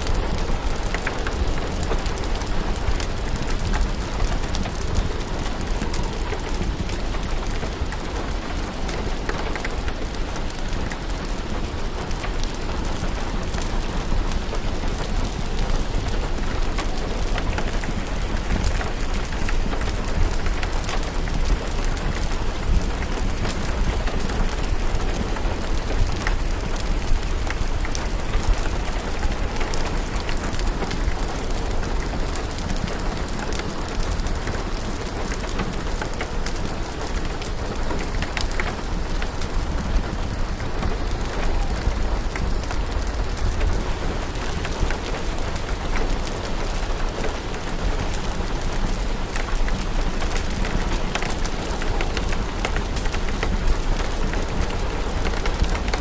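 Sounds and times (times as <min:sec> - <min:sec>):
crackling fireplace fire: 0:00.0 - 0:56.0
steady rain: 0:00.0 - 0:56.0.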